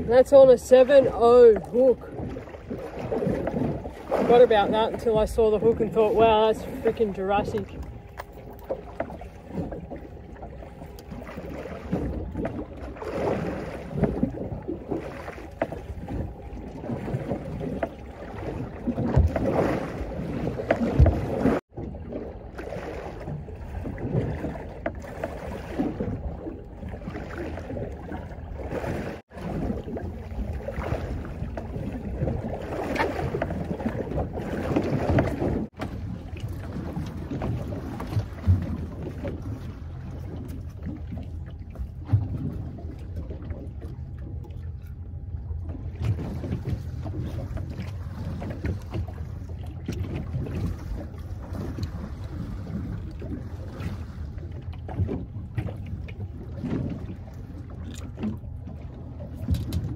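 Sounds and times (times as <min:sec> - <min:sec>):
water slapping against hull: 0:00.0 - 0:59.9.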